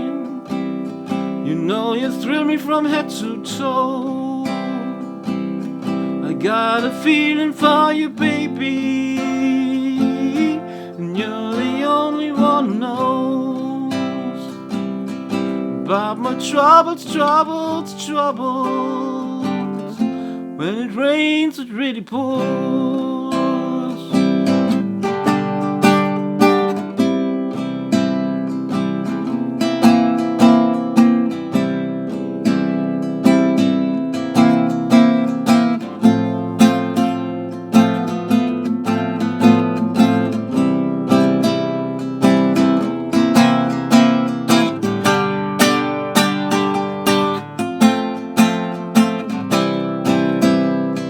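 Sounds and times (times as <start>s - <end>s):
acoustic guitar strumming: 0.0s - 51.0s.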